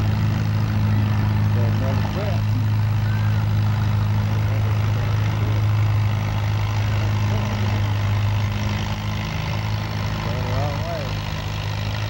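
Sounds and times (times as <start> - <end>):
tractor engine running at full throttle: 0.0 - 12.0.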